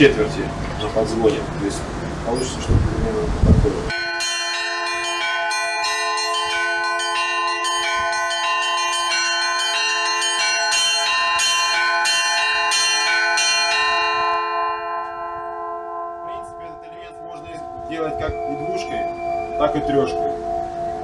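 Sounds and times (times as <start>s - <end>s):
middle church bells ringing: 3.9s - 21.0s
small church bells chord: 3.9s - 21.0s.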